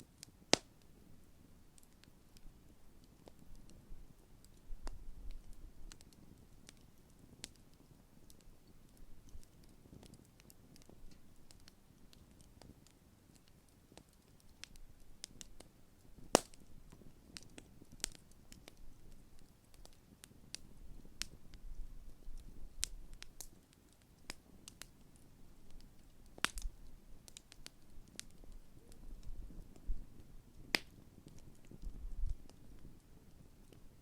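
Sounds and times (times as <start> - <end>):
burning wood popping: 0.0 - 34.0
campfire crackling: 0.0 - 34.0.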